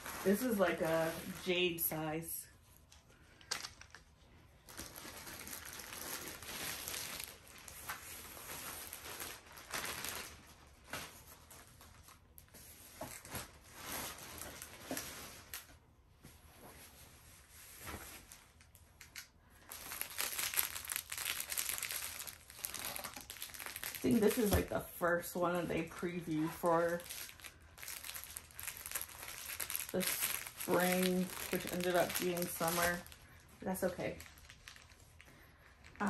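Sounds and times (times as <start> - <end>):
plastic wrapping crinkling: 2.7 - 15.8, 17.6 - 36.0.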